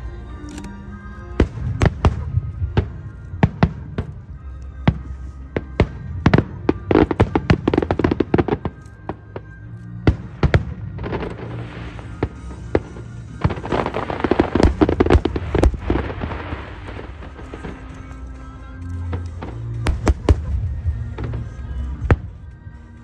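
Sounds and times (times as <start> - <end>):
background music: 0.0 - 23.0
fireworks crackling: 1.0 - 22.7
fireworks bangs: 1.4 - 18.2, 19.0 - 22.3.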